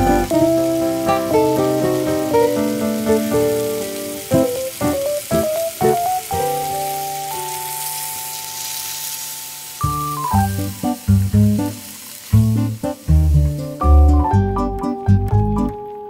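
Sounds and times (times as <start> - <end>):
food sizzling in a pot: 0.0 - 14.4
light plucked background music: 0.0 - 16.0
water poured onto hot food: 0.2 - 13.7.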